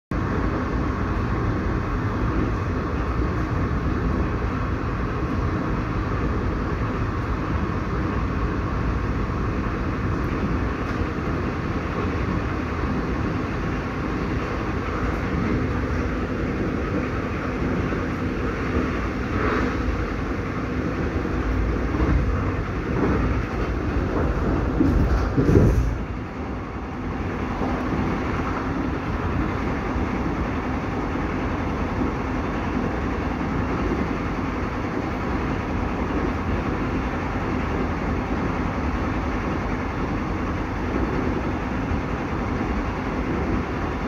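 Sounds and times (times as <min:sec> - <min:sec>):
train wheels rumbling on rails: 0:00.1 - 0:44.0.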